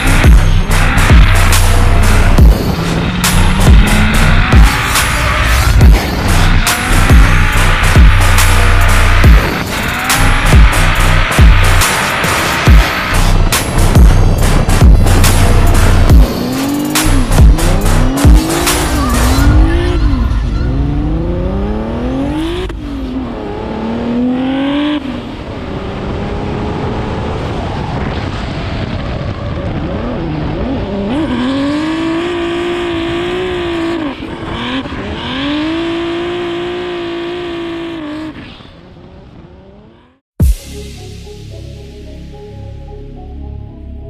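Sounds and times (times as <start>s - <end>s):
car engine revving hard: 0.0s - 27.8s, 29.5s - 40.2s.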